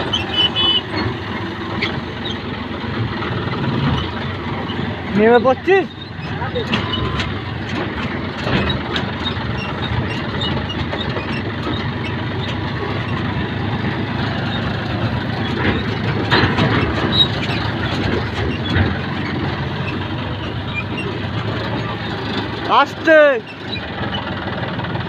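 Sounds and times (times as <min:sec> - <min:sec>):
engine running: 0:00.0 - 0:25.0
knocks and rattles: 0:00.0 - 0:25.0.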